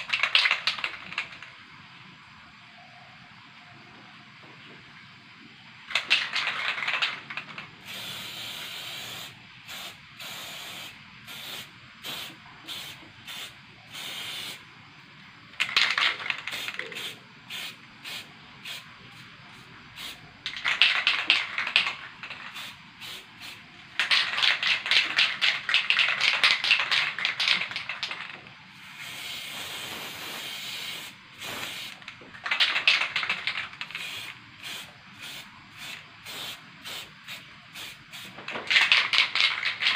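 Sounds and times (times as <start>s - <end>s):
spray paint can hissing: 0.0s - 1.5s, 5.9s - 14.7s, 15.6s - 39.9s.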